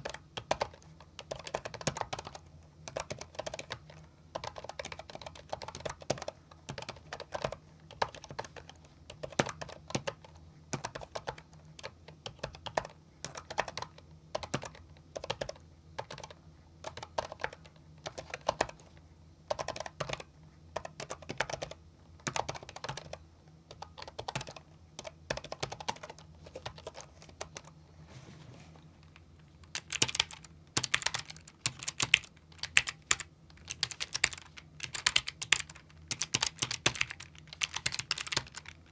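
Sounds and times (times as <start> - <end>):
mechanical keyboard typing: 0.0 - 18.9, 19.5 - 27.7, 29.1 - 38.9.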